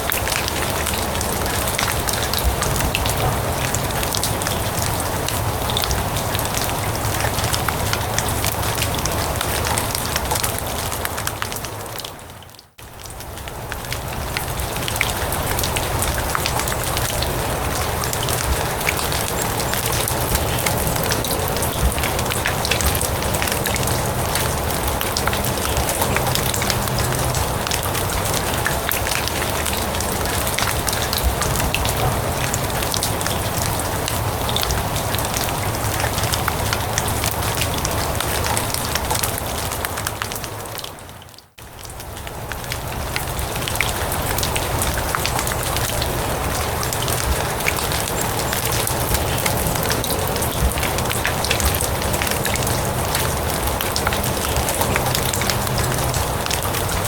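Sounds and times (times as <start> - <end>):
rain falling on grass: 0.0 - 57.0.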